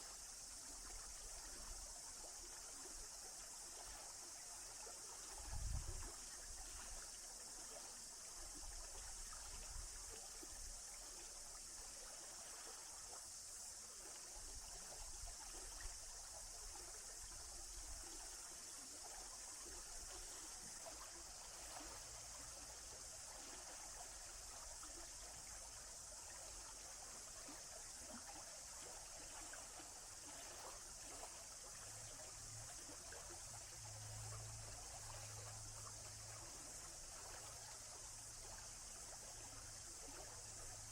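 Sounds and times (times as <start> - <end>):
stream flowing and trickling: 0.0 - 40.9.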